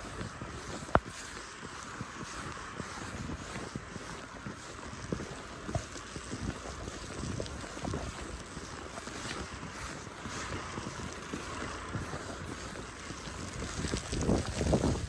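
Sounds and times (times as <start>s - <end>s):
snowstorm wind blowing: 0.0s - 15.0s
wind buffeting microphone: 0.0s - 15.0s.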